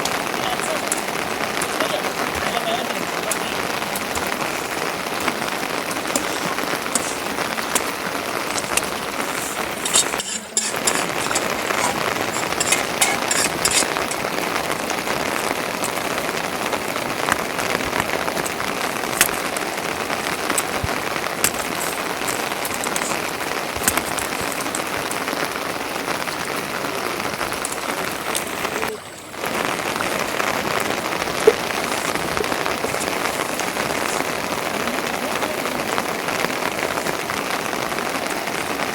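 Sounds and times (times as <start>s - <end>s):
raindrops ticking: 0.0s - 38.9s
steady rain falling: 0.0s - 38.9s.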